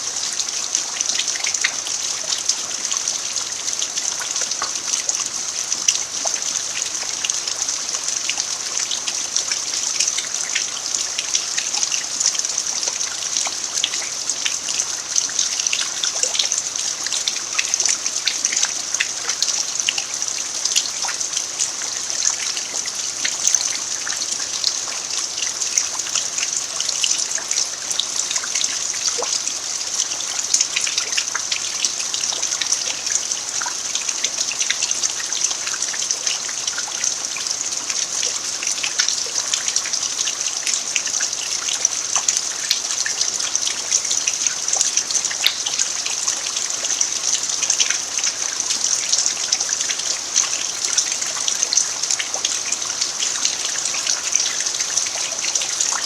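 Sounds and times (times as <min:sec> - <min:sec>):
rain falling on dirt: 0:00.0 - 0:56.0.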